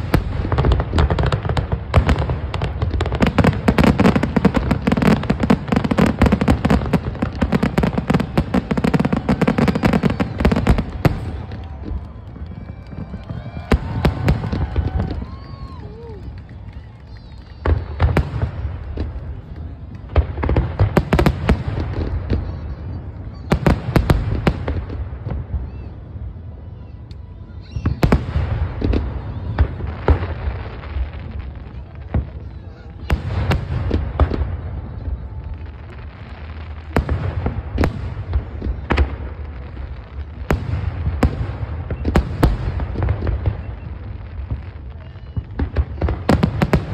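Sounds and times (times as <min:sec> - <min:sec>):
fireworks bursting with sharp bangs: 0:00.0 - 0:46.9.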